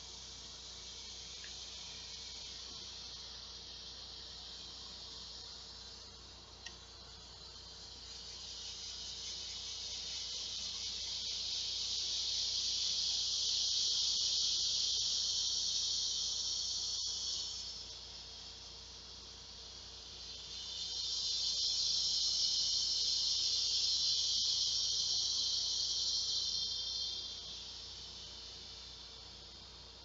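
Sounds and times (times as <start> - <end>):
cicada buzzing: 0.0 - 30.0.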